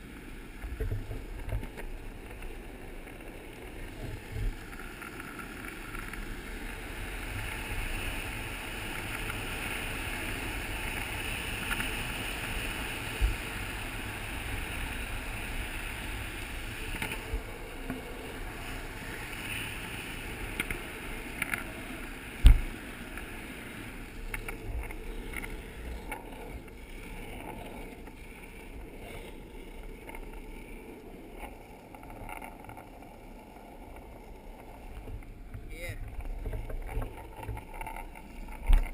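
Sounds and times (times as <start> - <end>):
longboard wheels rolling on asphalt: 0.0 - 38.9.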